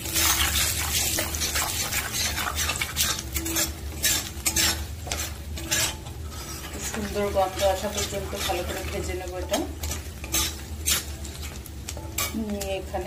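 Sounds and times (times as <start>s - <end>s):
spices sizzling in hot oil: 0.0s - 13.0s
steel spatula scraping a pan: 0.0s - 13.0s.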